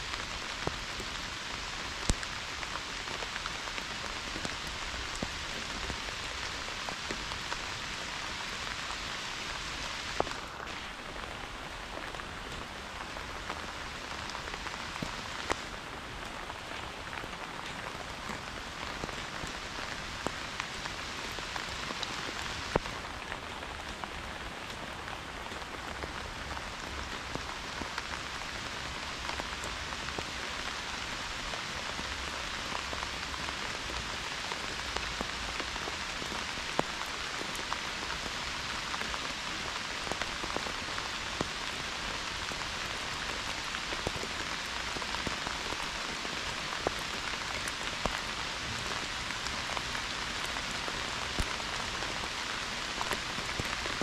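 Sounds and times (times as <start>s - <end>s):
pouring rain hiss: 0.0s - 54.0s
raindrops tapping microphone: 0.0s - 54.0s.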